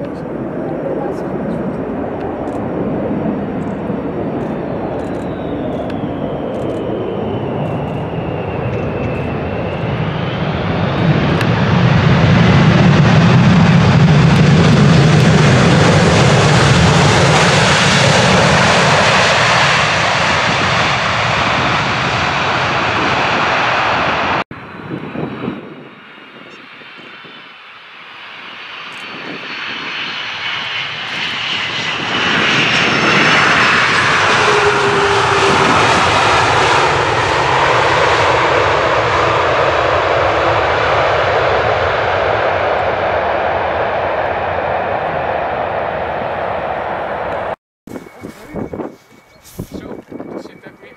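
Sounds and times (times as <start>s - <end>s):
jet engine whine: 0.0s - 50.9s
jet engines deep rumble: 0.0s - 50.9s.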